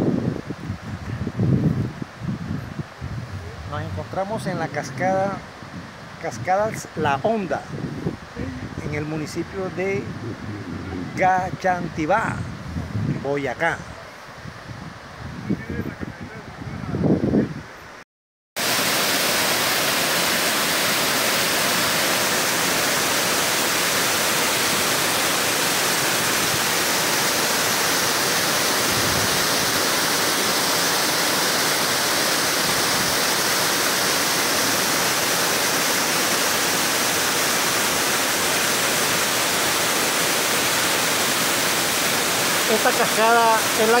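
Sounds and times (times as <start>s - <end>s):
waterfall rushing: 2.8s - 12.6s, 18.6s - 44.0s.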